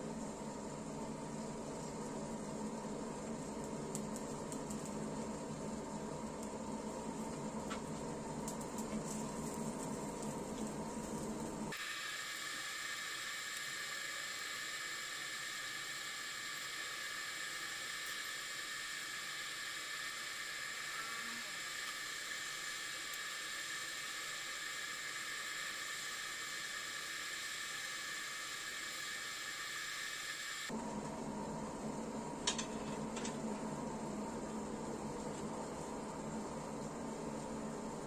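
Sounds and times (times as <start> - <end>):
forge blower hissing air: 0.0 - 38.0.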